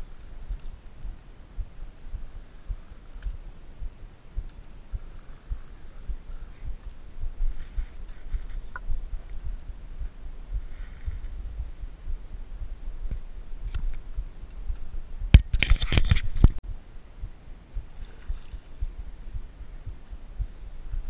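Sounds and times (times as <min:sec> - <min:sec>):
wind rumble: 0:00.0 - 0:21.0.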